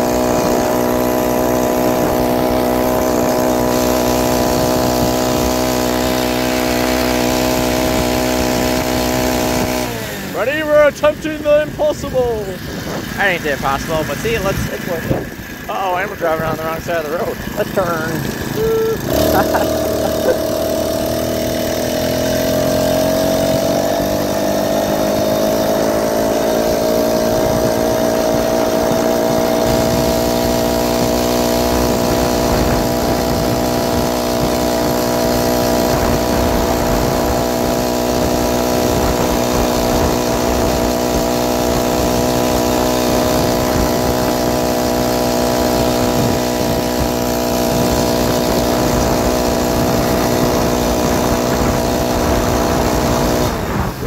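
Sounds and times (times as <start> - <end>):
motorized bicycle engine revving: 0.0 - 54.0.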